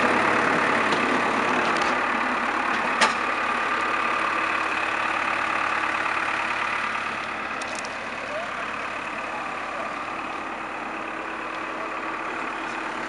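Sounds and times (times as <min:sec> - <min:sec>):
excavator diesel engine idling: 0:00.0 - 0:13.0.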